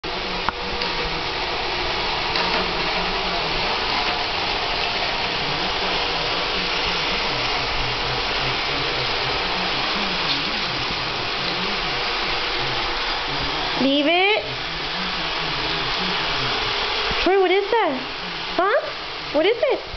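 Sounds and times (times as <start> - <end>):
robot vacuum whirring: 0.2 - 19.6.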